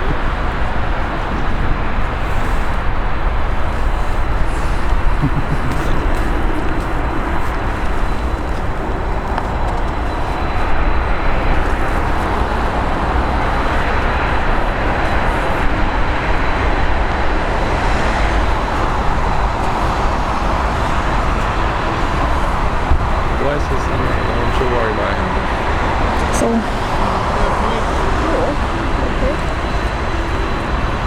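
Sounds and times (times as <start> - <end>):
jet engine rushing and whining: 0.0 - 31.0.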